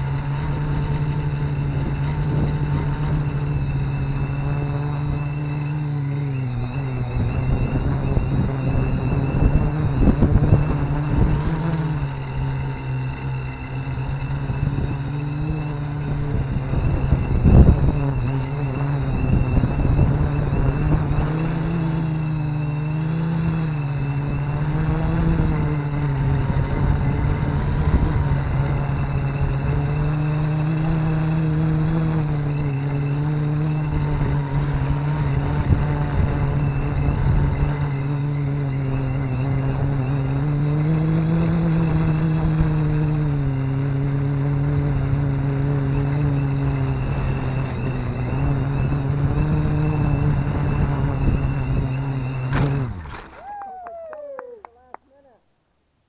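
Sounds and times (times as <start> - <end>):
wind on microphone: 0.0 - 54.1
drone motors humming: 0.0 - 55.3.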